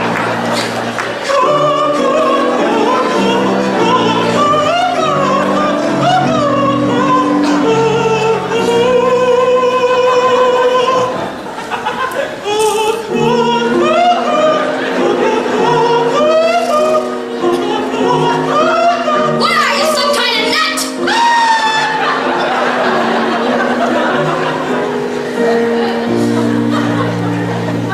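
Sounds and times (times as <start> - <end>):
musical accompaniment: 0.0 - 27.9.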